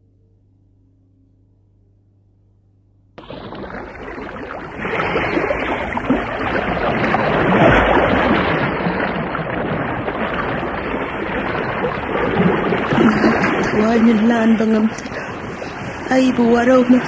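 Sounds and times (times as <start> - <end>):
water rushing: 3.2 - 17.0.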